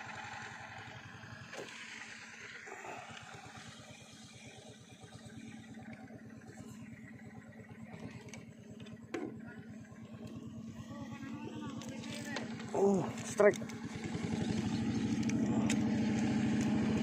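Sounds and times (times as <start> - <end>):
small boat engine puttering: 0.0 - 17.0.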